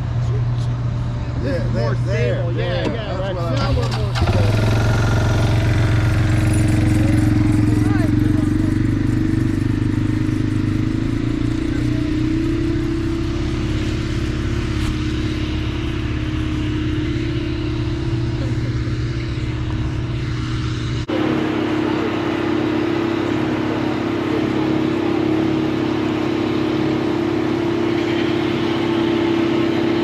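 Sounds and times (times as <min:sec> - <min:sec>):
diesel engines rumbling: 0:00.0 - 0:30.0
steady machine hum: 0:00.0 - 0:30.0.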